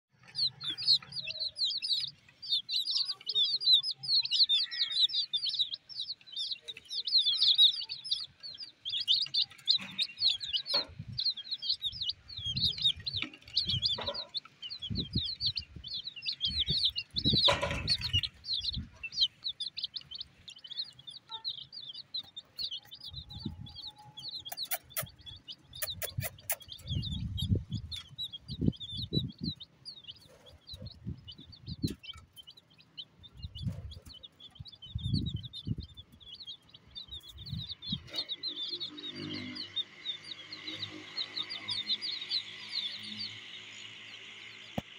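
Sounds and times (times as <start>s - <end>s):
chicks peeping: 0.1s - 44.9s.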